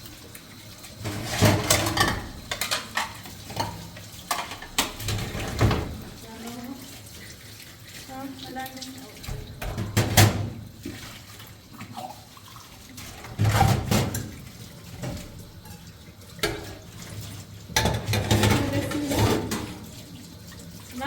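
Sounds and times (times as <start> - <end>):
water running and splashing: 0.0 - 21.0
water trickle: 0.0 - 21.0.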